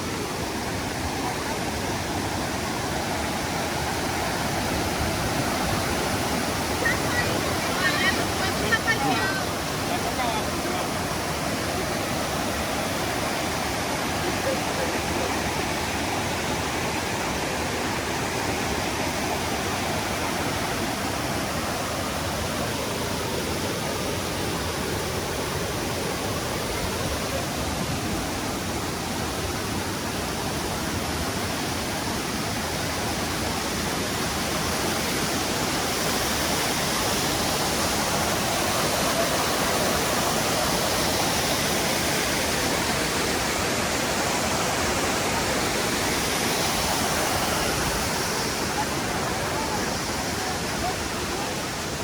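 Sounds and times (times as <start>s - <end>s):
floodwater rushing: 0.0s - 52.0s.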